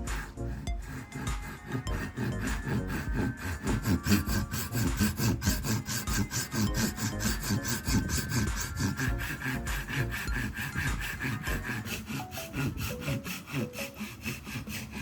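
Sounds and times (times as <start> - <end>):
sawing or rasping wood: 0.0 - 15.0.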